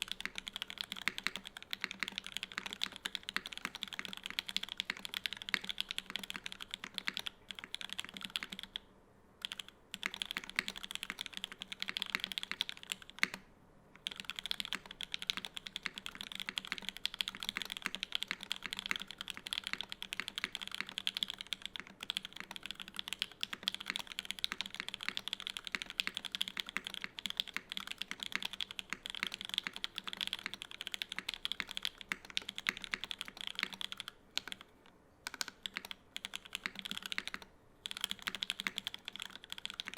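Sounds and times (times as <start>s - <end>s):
fast typing on mechanical keyboard: 0.0s - 8.8s, 9.4s - 13.4s, 14.0s - 39.9s.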